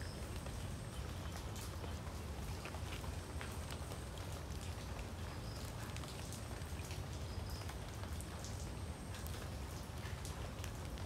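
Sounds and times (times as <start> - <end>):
rain pattering on leaves: 0.0 - 11.0.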